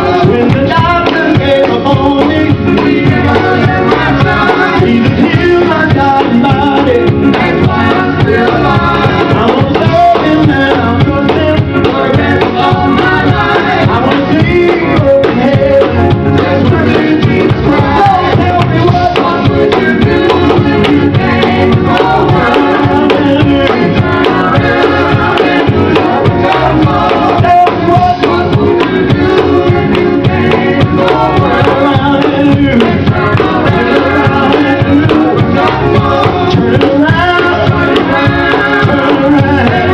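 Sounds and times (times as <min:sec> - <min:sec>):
drums and percussion beat: 0:00.0 - 0:39.9
vocal group singing gospel: 0:00.0 - 0:39.9.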